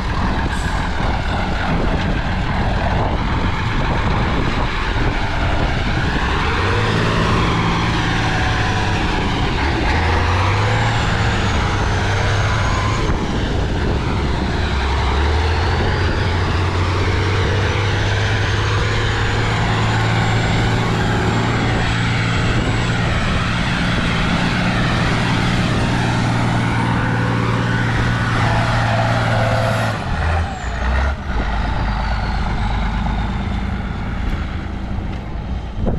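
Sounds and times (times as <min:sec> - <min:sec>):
truck engine running hard: 0:00.0 - 0:35.9.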